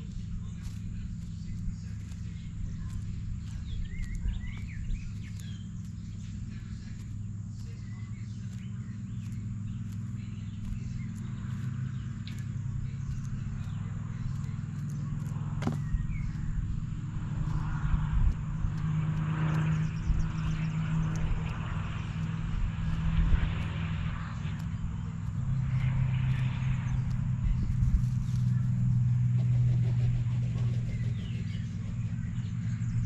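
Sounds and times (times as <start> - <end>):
faint high-pitched murmur: 0.0 - 33.0
low engine-like drone: 0.0 - 33.0.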